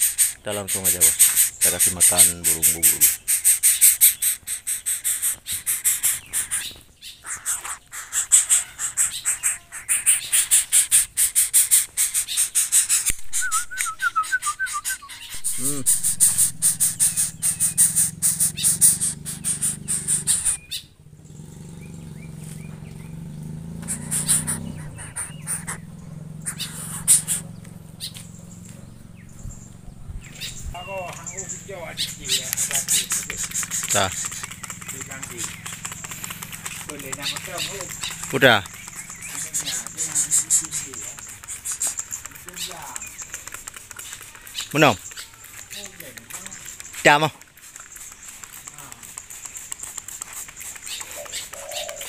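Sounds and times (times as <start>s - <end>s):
bird rattling begging calls: 0.0s - 52.0s.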